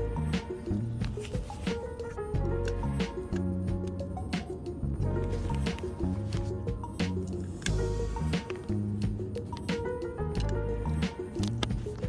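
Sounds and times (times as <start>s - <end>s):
background music with plucked melody: 0.0s - 12.0s.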